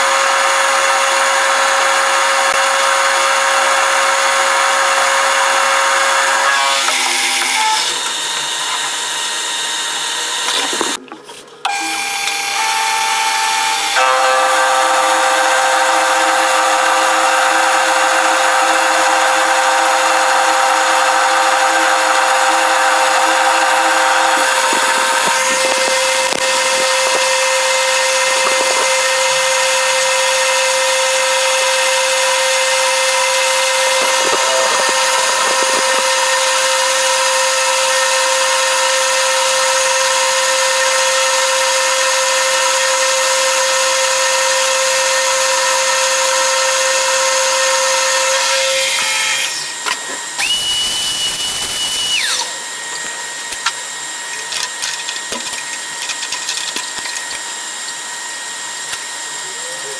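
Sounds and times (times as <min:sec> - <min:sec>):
machine tool whining: 0:00.0 - 0:11.0, 0:11.6 - 0:59.9.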